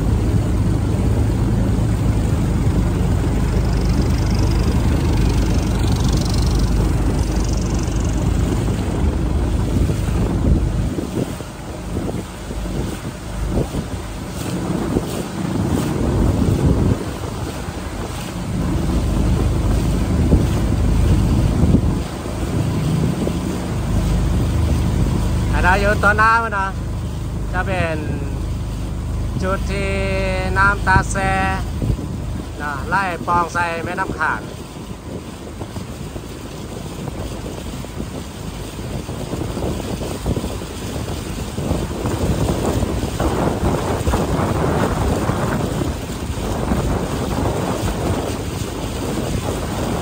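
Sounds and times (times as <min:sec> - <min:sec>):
low engine rumble: 0:00.0 - 0:50.0
water rushing along hull: 0:00.0 - 0:50.0
wind buffeting microphone: 0:00.0 - 0:50.0.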